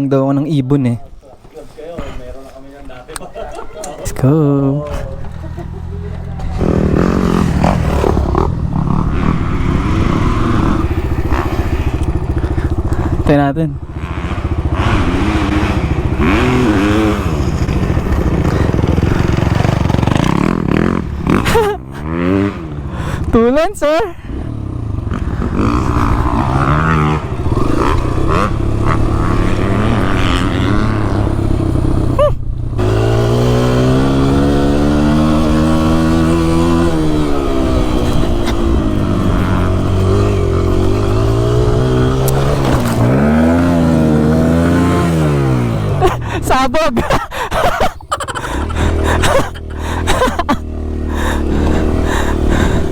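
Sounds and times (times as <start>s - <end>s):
dirt bike engine revving: 3.1s - 52.9s.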